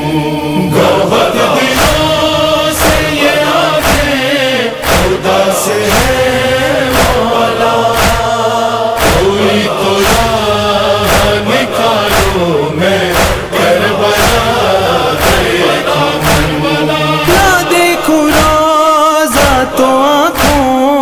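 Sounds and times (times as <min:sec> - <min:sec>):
men chanting a lament in chorus: 0:00.0 - 0:21.0
rhythmic chest-beating: 0:00.0 - 0:21.0.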